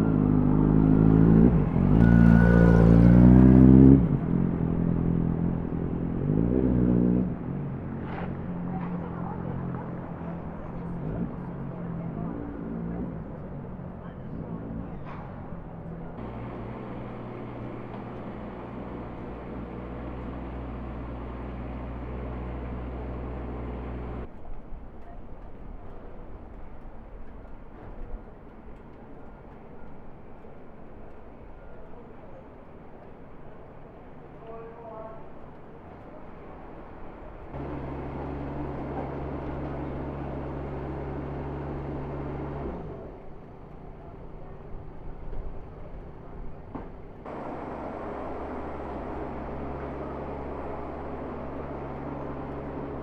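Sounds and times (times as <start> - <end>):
vehicle engine idling: 0.0 - 6.6, 7.2 - 24.4, 25.0 - 53.0
street noise: 0.0 - 53.0.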